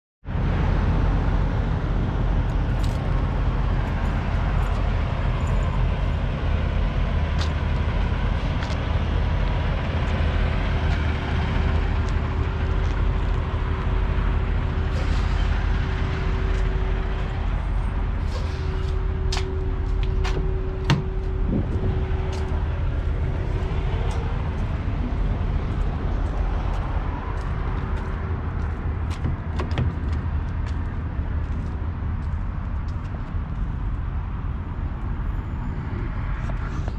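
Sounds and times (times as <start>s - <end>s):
diesel truck engines idling: 0.3s - 36.9s.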